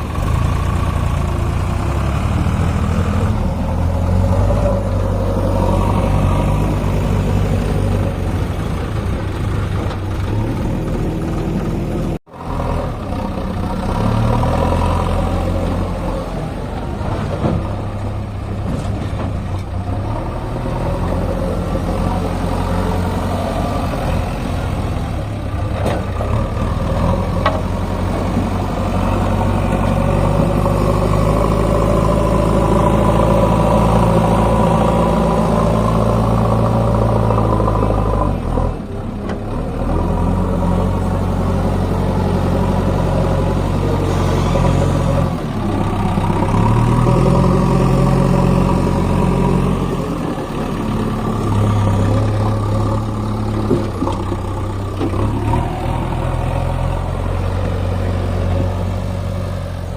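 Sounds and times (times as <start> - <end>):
diesel digger engine running: 0.0 - 59.9.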